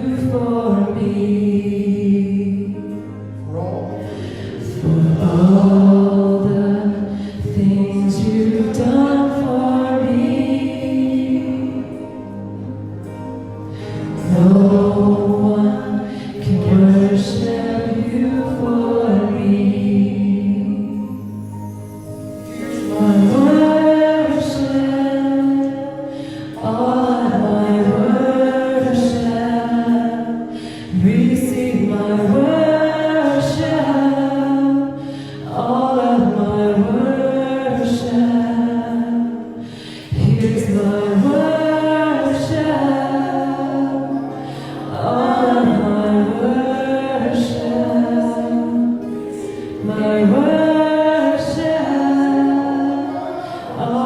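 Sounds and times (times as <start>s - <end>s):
voices singing worship music: 0.0s - 54.0s
sustained held chord: 2.7s - 54.0s.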